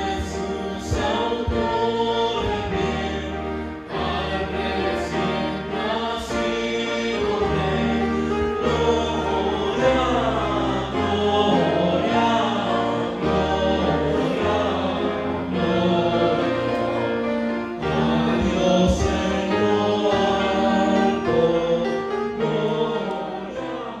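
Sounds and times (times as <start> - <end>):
choir singing: 0.0 - 24.0
instrumental accompaniment: 0.0 - 24.0.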